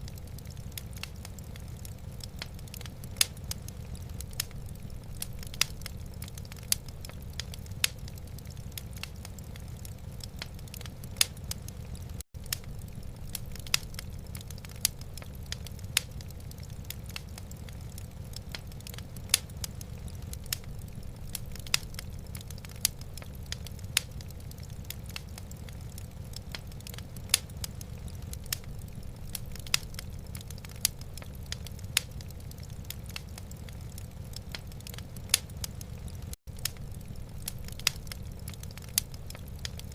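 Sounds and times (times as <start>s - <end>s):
low rumble of fire: 0.0s - 39.9s
wood fire crackling: 0.0s - 39.9s.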